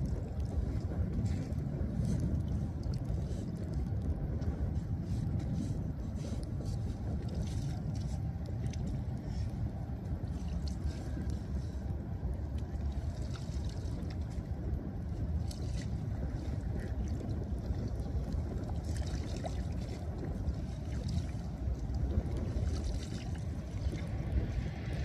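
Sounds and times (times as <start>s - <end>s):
floodwater splashing and sloshing: 0.0s - 25.0s
steady low rumble: 0.0s - 25.0s.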